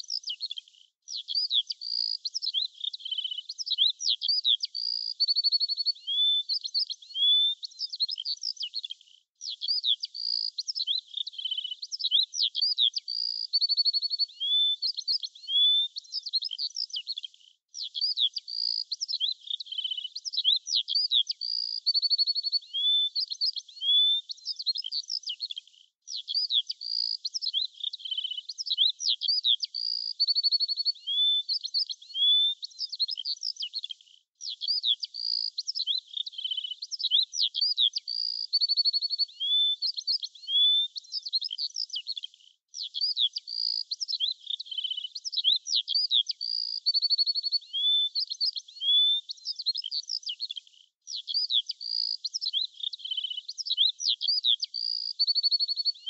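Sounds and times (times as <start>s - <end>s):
small songbirds singing: 0.0s - 56.0s.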